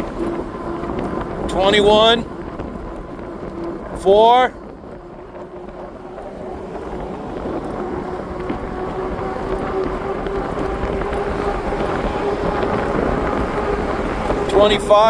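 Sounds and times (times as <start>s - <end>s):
electric motor whining: 0.0s - 15.0s
wind rushing over microphone: 0.0s - 15.0s.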